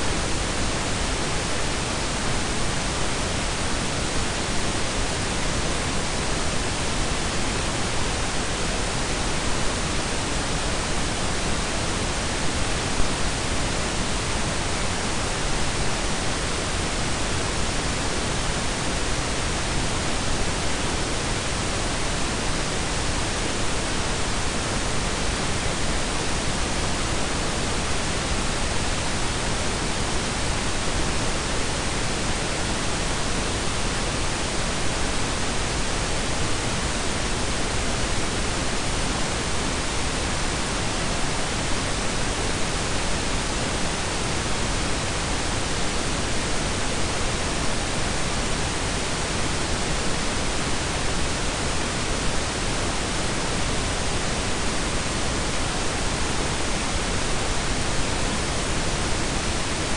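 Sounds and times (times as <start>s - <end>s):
synthetic noise hiss and rumble: 0.0s - 59.9s.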